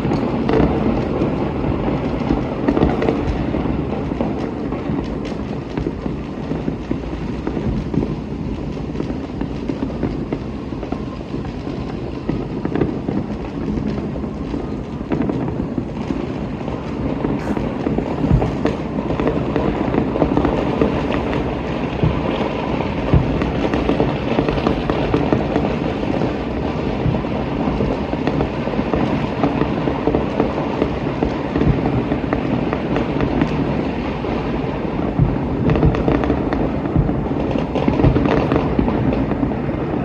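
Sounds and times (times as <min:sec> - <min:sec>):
distant fireworks crackling: 0:00.0 - 0:40.0
loud firework bangs: 0:00.0 - 0:40.0.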